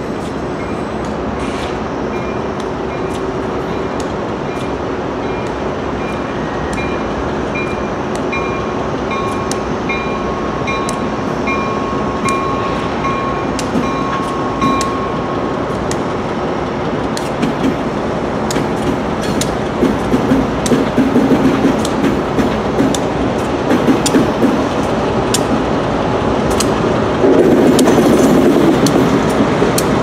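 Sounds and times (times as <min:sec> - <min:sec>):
locomotive rumble: 0:00.0 - 0:30.0
train wheels clicking: 0:00.0 - 0:30.0.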